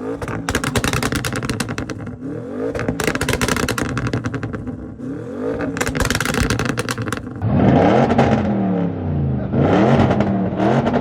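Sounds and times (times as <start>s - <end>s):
exhaust crackling: 0.0s - 11.0s
sports car engine revving: 0.0s - 11.0s.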